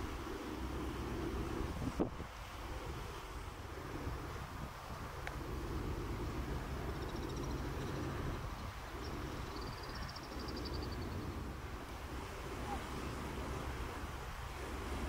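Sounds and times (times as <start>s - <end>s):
sea waves: 0.0s - 15.0s
wind rumbling on microphone: 0.0s - 15.0s.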